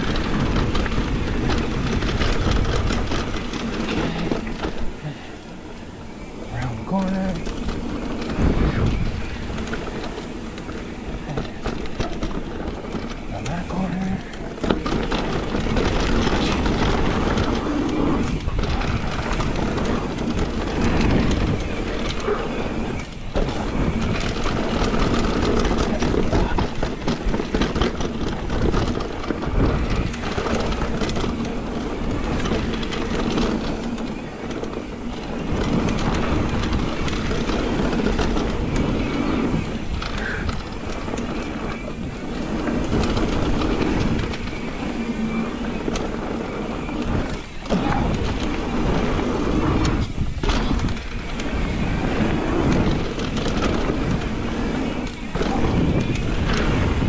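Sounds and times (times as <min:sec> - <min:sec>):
bike clattering over bumps: 0:00.0 - 0:57.0
bike tyres rolling on dirt: 0:00.0 - 0:57.0.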